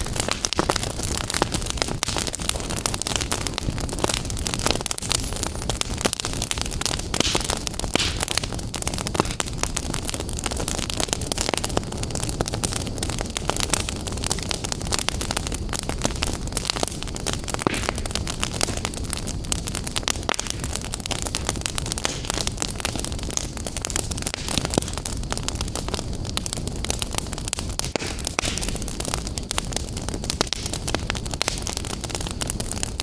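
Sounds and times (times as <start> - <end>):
fire crackling in a fireplace: 0.0 - 33.0.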